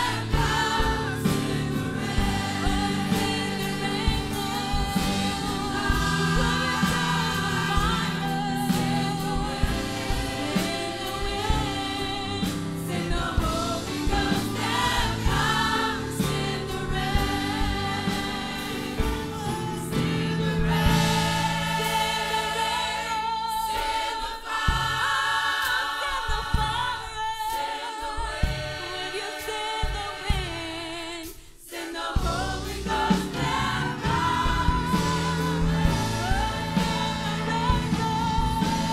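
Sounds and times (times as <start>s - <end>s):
choir singing gospel with instruments: 0.0s - 38.9s.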